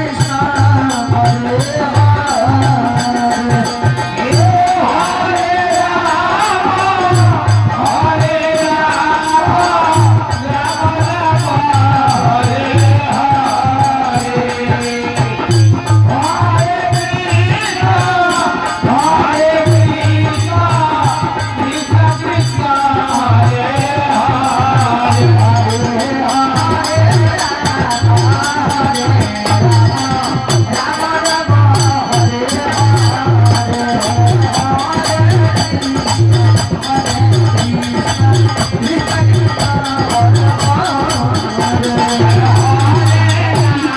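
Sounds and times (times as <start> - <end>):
jingling hand percussion: 0.0 - 43.9
person singing: 0.0 - 43.9.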